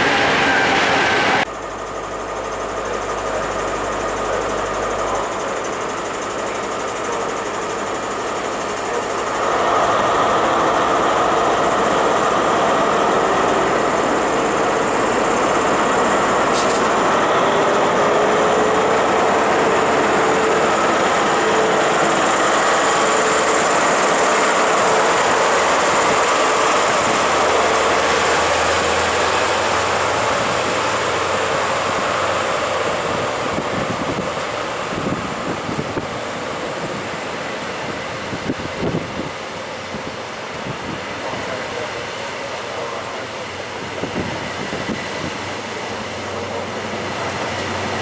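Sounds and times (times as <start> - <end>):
diesel train engine running: 0.0 - 48.0
steady engine whine: 0.0 - 48.0
train wheels rolling on rails: 0.0 - 48.0.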